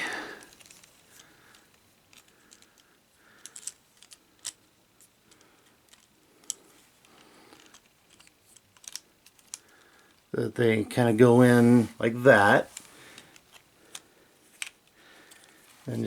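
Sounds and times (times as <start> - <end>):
plastic toy clicks and rustling: 0.4 - 10.3, 12.7 - 15.7.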